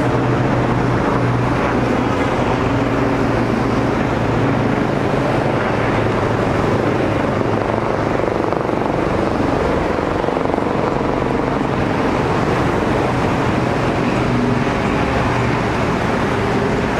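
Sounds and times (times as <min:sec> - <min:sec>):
engine drone with low rumble: 0:00.0 - 0:16.9.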